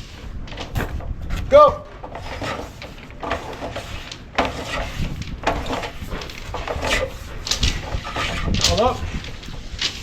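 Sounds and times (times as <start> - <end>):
wire scraping through conduit: 0.0 - 10.0.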